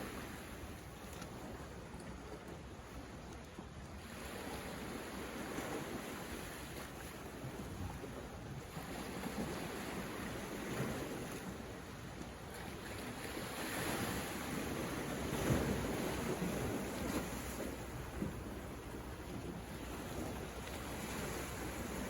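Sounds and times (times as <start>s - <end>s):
sea waves breaking on shore: 0.0s - 22.0s.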